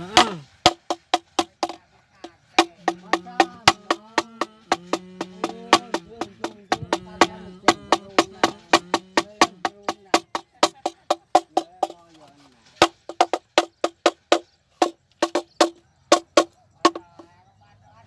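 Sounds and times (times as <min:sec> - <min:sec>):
hollow wooden clapper knocking: 0:00.0 - 0:01.8, 0:02.6 - 0:12.2, 0:12.8 - 0:17.3.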